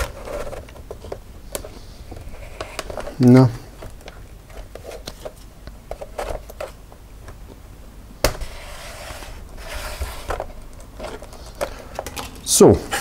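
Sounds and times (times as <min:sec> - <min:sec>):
plastic rubbing: 0:00.0 - 0:06.8, 0:08.3 - 0:13.0.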